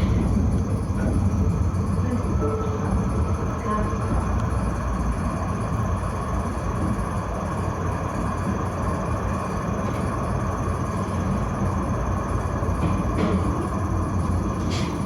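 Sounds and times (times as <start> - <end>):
tram running rumble: 0.0 - 15.0.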